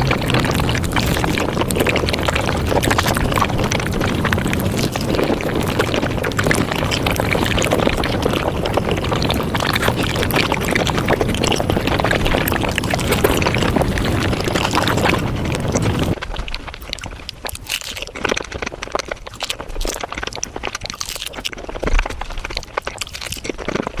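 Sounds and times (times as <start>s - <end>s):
rapid chewing and squishing: 0.0s - 24.0s.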